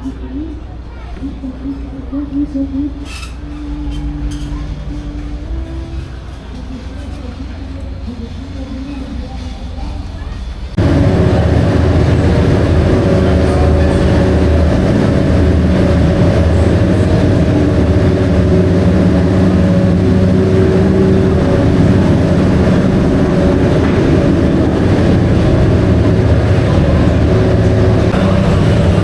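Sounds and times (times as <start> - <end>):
loud engine droning steadily: 0.0 - 29.0.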